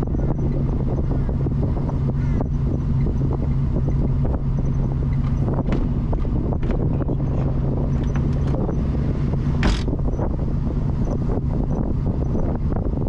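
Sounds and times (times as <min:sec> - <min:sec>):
engine hum: 0:00.0 - 0:13.0
road noise: 0:00.0 - 0:13.0.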